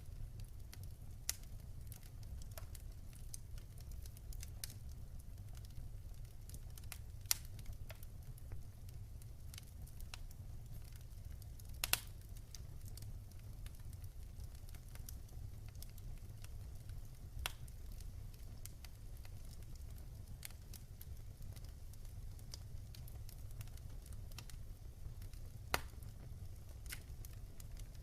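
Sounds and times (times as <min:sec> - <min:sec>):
low fire rumble: 0:00.0 - 0:28.0
wood fire crackling: 0:00.0 - 0:28.0.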